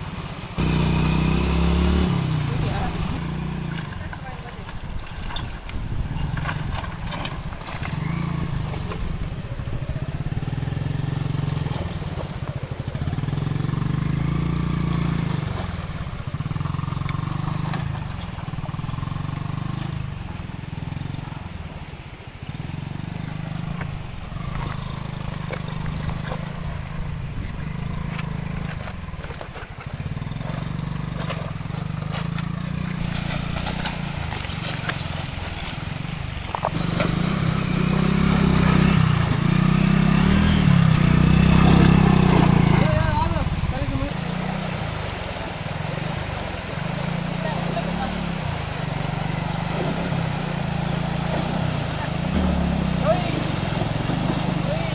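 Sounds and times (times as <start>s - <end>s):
water splashing around wheels: 0.0s - 54.9s
small motorcycle engine revving: 0.6s - 4.4s, 5.3s - 12.2s, 12.8s - 21.5s, 22.5s - 54.9s.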